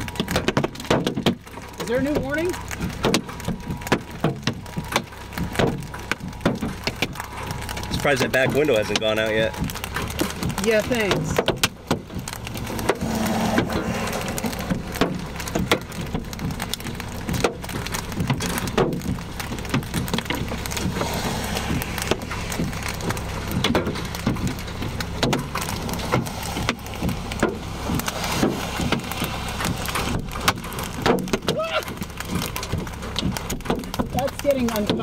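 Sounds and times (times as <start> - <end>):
hailstones banging on car: 0.0 - 35.0
hiss of hail and rain: 0.0 - 35.0.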